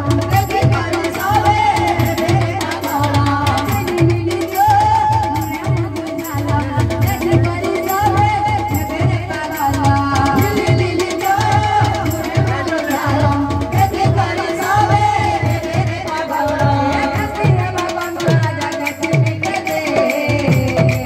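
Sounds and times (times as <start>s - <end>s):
hand drum rhythm: 0.0s - 21.0s
woman singing into a microphone: 0.0s - 21.0s.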